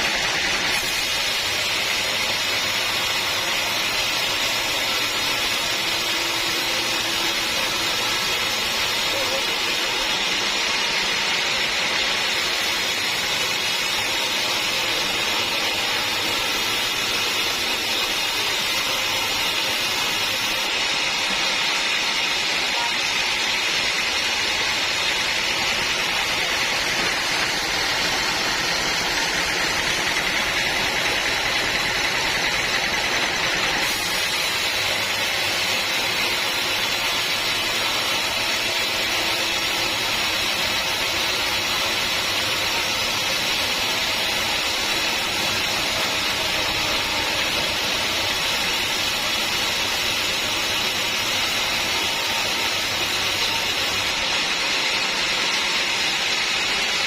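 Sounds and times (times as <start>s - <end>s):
sawmill machine running: 0.0s - 57.0s.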